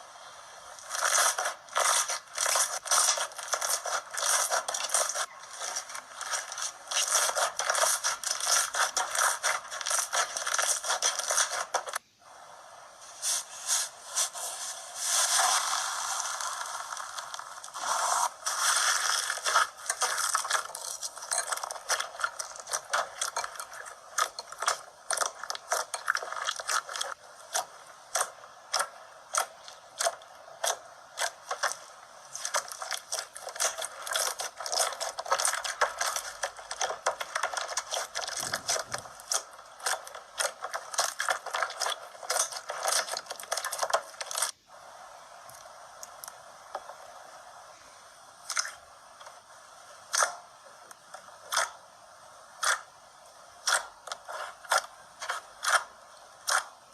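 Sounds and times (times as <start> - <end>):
slime clicking and crackling: 0.2 - 12.0, 15.1 - 44.6, 48.4 - 56.9.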